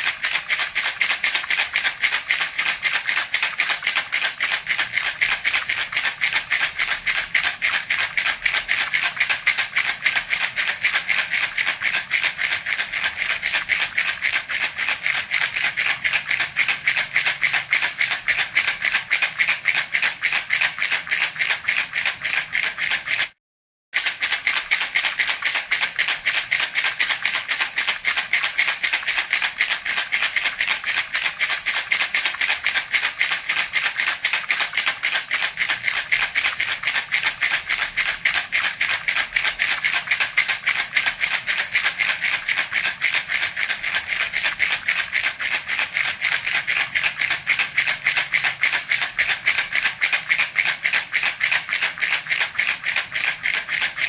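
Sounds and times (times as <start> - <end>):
baby rattle shaken: 0.0 - 23.4, 24.0 - 54.0.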